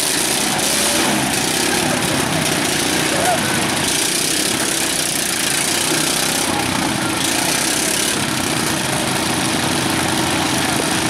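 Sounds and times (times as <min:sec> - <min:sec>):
lawn mower engines idling: 0:00.0 - 0:11.0.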